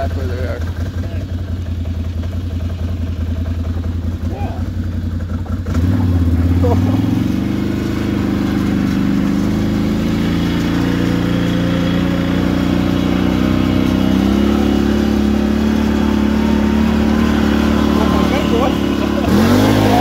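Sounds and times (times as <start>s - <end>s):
quad bike engine running: 0.0s - 20.0s.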